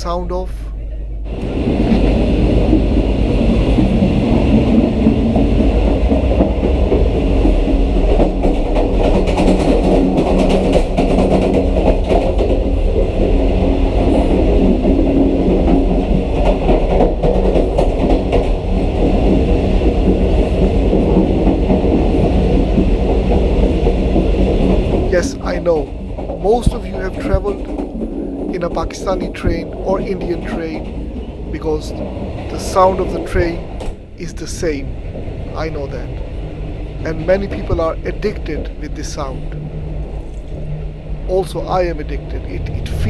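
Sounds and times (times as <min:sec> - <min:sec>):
train wheels rumbling and clacking: 0:00.0 - 0:43.0.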